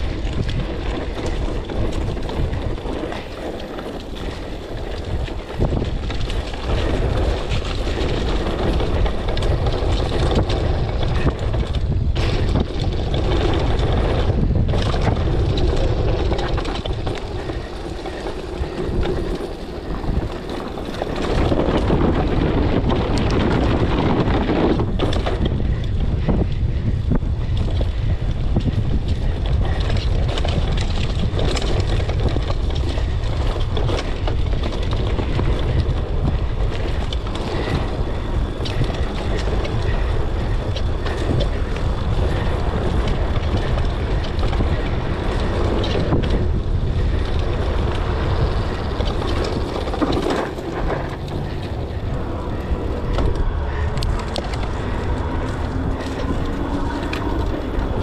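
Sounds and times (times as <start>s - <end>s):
mountain bike rattling and knocking: 0.0s - 58.0s
wind on microphone: 0.0s - 58.0s.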